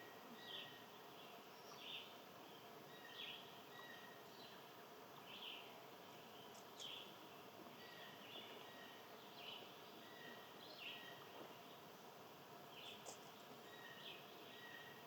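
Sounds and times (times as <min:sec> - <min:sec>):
songbirds chirping: 0:00.0 - 0:15.0
steady low hiss: 0:00.0 - 0:15.0.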